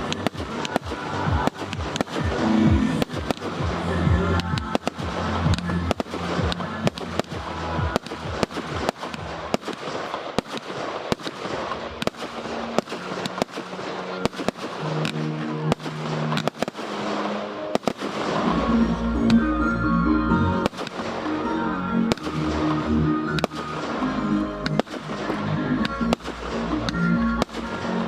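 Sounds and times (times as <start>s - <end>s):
fireworks bangs and crackling: 0.0s - 28.0s
music soundtrack: 0.0s - 28.0s.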